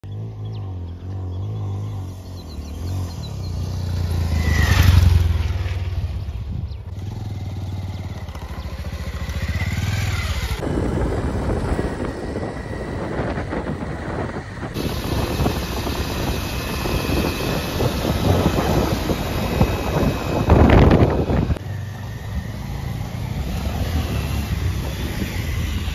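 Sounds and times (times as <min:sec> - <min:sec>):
motorcycle engine passing by: 0:00.0 - 0:25.9.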